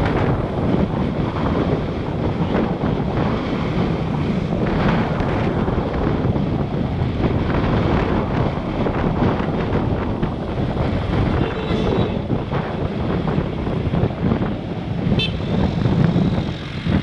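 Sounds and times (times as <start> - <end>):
road traffic noise: 0.0 - 17.0
wind rush on microphone: 0.0 - 17.0.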